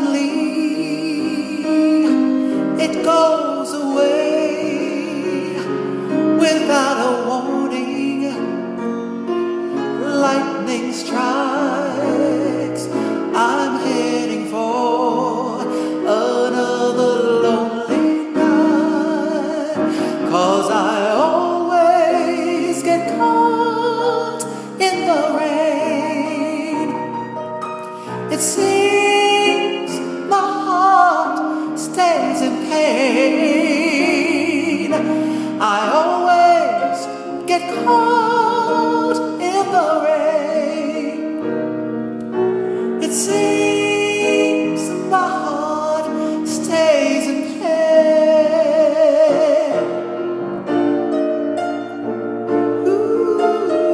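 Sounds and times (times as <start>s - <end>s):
person singing with vibrato: 0.0s - 53.9s
piano accompaniment: 0.0s - 53.9s.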